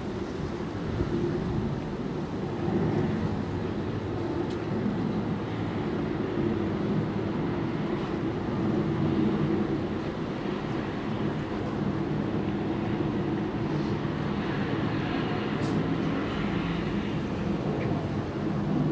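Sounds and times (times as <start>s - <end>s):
distant ferry engines droning: 0.0s - 18.9s.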